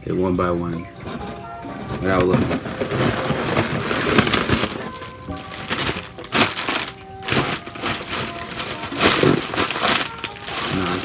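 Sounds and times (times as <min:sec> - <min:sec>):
background music: 0:00.0 - 0:11.0
packing material crinkling: 0:00.9 - 0:11.0.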